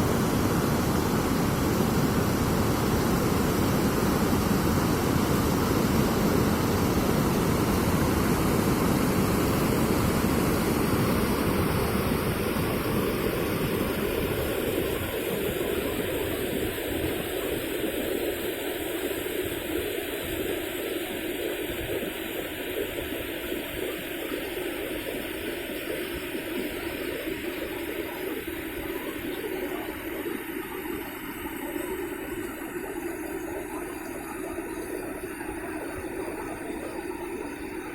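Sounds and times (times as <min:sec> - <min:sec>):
water rushing from a dam: 0:00.0 - 0:37.9.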